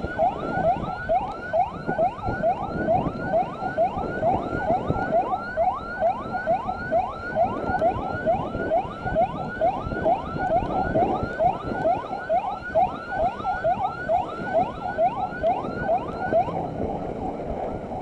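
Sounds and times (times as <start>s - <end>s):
electronic siren yelping: 0.0s - 18.0s.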